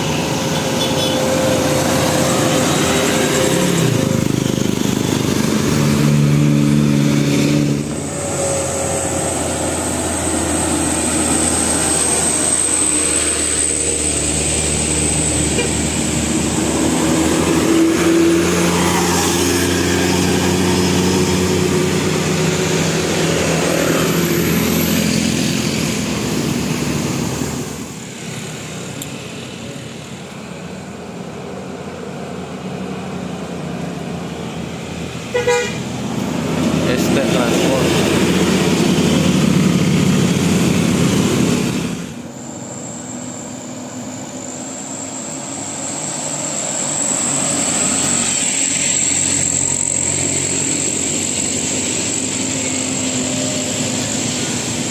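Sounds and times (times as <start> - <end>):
large vehicle engine and road noise: 0.0 - 54.9.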